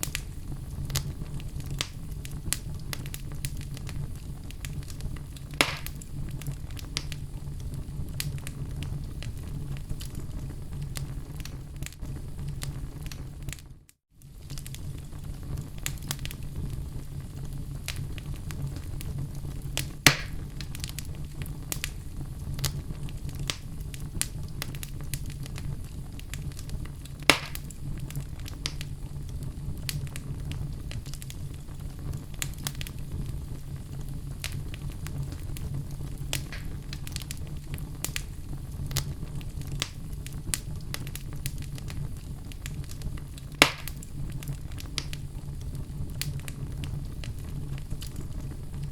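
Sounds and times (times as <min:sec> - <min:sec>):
fire crackling: 0:00.0 - 0:48.9
loud pops from burning wood: 0:00.0 - 0:48.9
low rumble of flames: 0:00.0 - 0:48.9.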